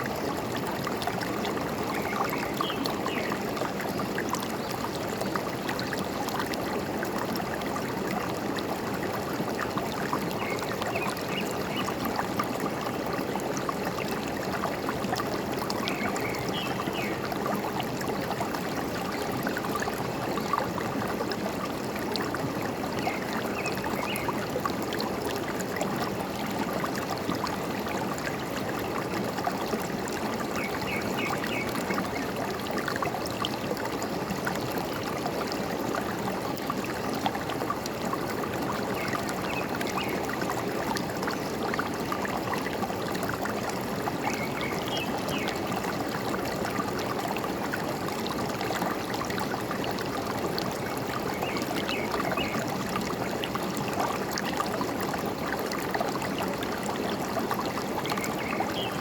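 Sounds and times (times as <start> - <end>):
stream gurgling: 0.0 - 59.0.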